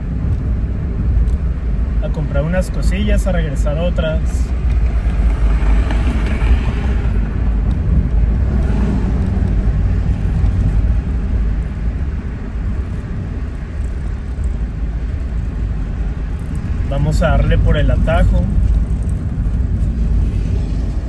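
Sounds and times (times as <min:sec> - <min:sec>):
car engine rumble: 0:00.0 - 0:21.0.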